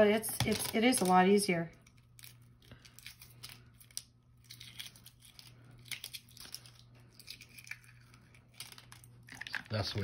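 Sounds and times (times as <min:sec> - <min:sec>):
egg shell crackling while peeled: 0:00.3 - 0:10.0.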